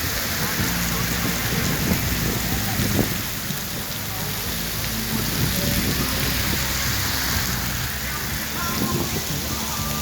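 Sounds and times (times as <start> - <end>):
heavy rain on street: 0.0 - 10.0.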